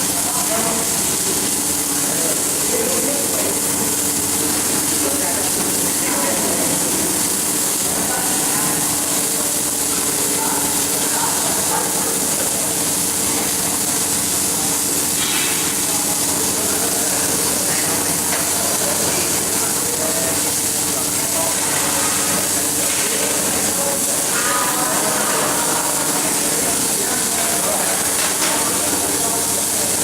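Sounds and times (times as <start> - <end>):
welding arc hissing: 0.0 - 30.0.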